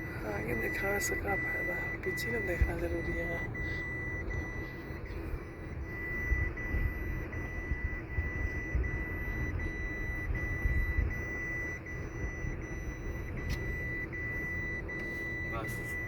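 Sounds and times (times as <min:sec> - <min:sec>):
car rumbling on the move: 0:00.0 - 0:16.0
high-pitched electronic tone: 0:00.0 - 0:16.0.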